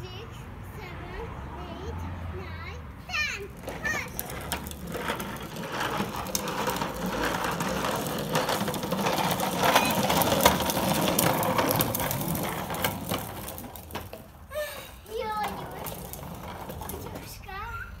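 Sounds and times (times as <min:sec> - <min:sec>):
plastic toy wheels rattling on concrete: 0:03.1 - 0:18.0.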